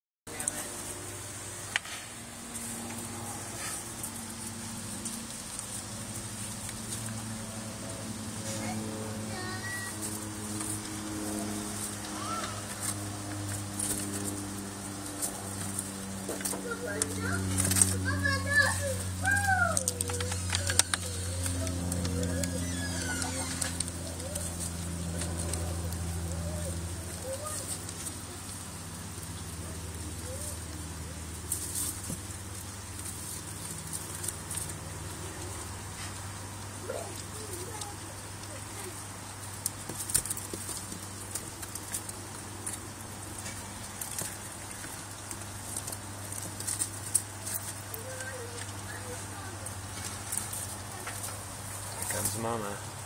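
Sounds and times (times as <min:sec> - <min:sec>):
rabbits chewing leaf: 0:00.3 - 0:53.0
steady low hum: 0:00.3 - 0:53.0.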